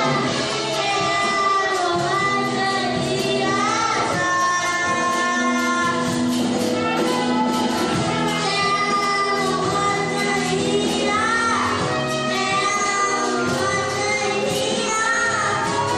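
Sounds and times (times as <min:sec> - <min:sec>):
girl singing into a microphone: 0:00.0 - 0:15.9.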